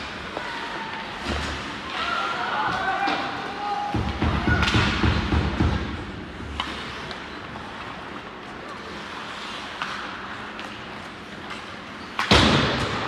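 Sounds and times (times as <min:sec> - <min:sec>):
crowd hubbub in rink: 0:00.0 - 0:13.0.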